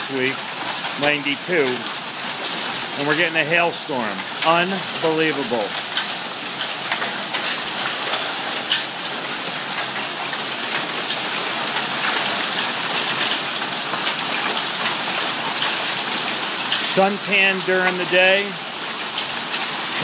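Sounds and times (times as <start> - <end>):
hail and rain hissing: 0.0 - 20.0
hailstones ticking: 0.0 - 20.0.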